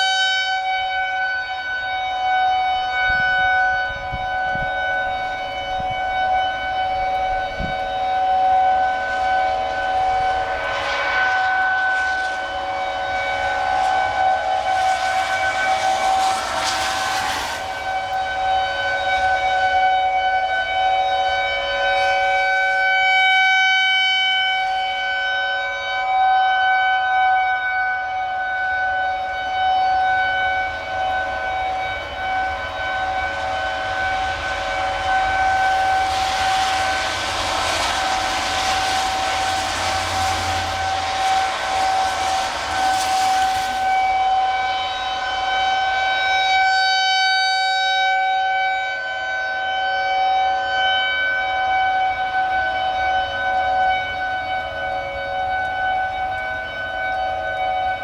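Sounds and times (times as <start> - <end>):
tornado warning siren: 0.0 - 58.0
rushing noise: 1.0 - 48.2, 49.6 - 58.0.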